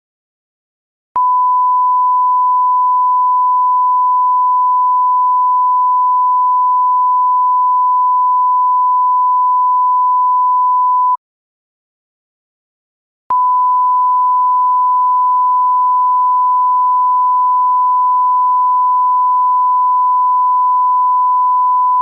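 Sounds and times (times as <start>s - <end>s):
censor bleep tone: 1.2s - 11.2s, 13.3s - 22.0s.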